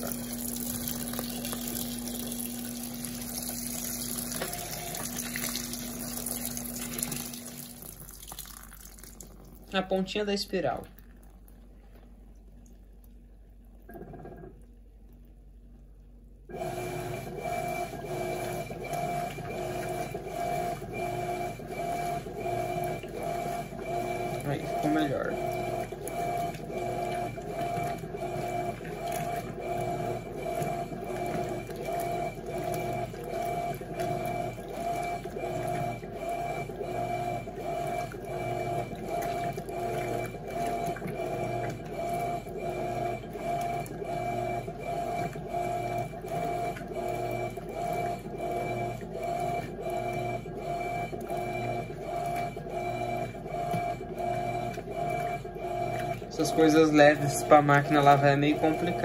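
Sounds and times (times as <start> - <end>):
washing machine agitating: 0.0 - 59.0.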